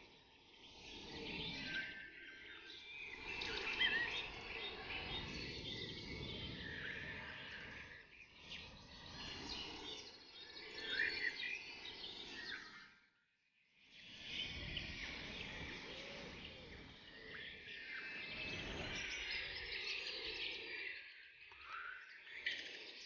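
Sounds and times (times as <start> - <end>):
songbirds chirping: 0.0 - 13.1, 13.9 - 23.0.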